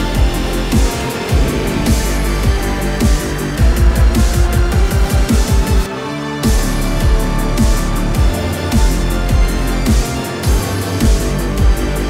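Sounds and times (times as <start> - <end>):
deep kick drum: 0.0 - 11.9
bass line: 0.0 - 12.0
electronic dance music: 0.0 - 12.0.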